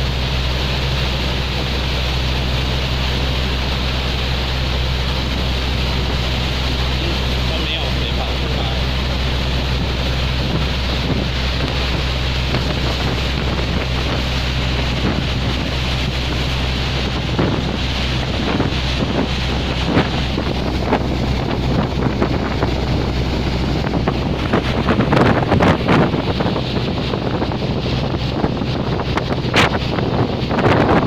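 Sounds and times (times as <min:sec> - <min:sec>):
boat engine hum: 0:00.0 - 0:31.0
rushing water: 0:00.0 - 0:31.0
wind buffeting microphone: 0:00.0 - 0:31.0.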